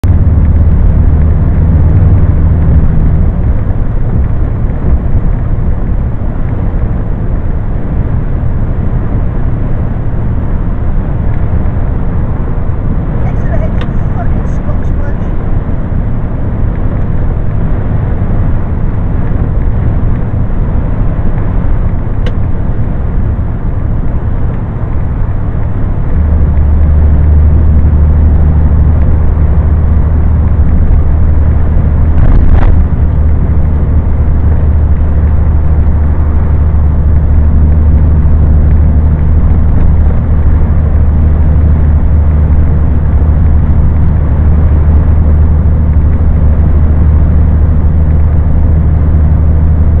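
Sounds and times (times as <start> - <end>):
truck diesel engine droning: 0.0 - 50.0.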